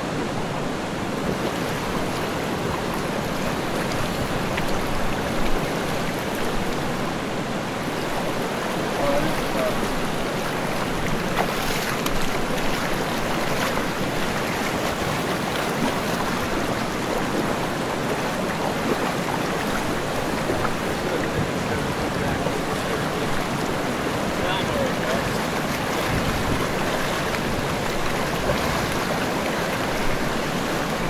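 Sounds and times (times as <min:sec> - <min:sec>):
fast-flowing river current: 0:00.0 - 0:31.0.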